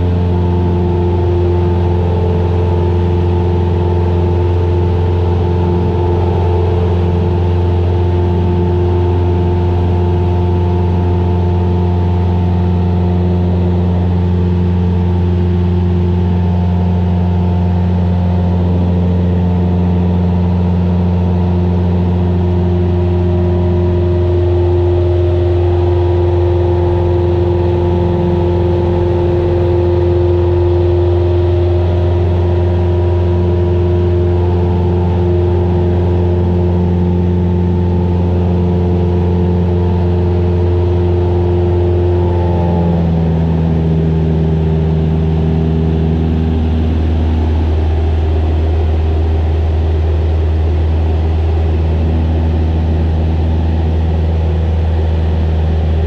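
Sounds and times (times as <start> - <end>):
airplane engine droning: 0.0 - 56.0.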